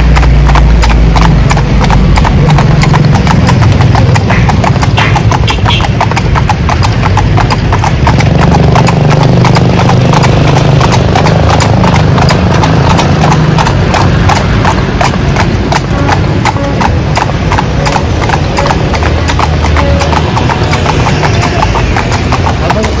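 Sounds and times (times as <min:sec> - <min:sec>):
horse hooves on asphalt: 0:00.0 - 0:23.0
low traffic rumble: 0:00.0 - 0:23.0.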